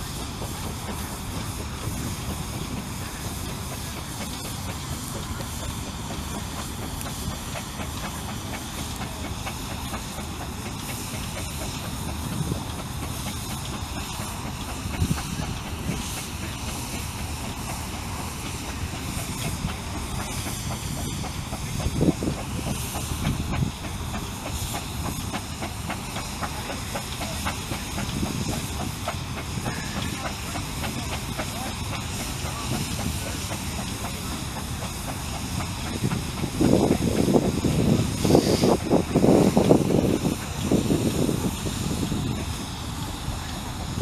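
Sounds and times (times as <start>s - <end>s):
steam hissing: 0.0s - 44.0s.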